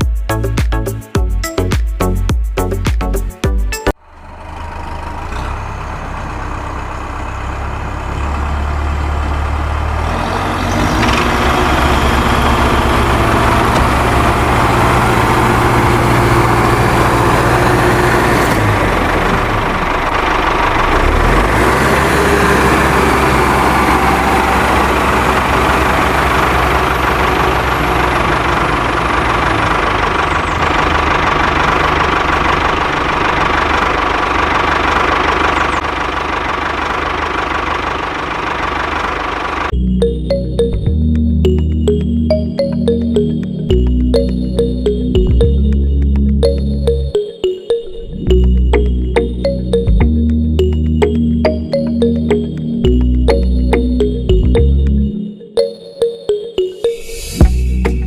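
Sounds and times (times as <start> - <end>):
small diesel engine running: 3.9 - 47.3, 48.1 - 55.1.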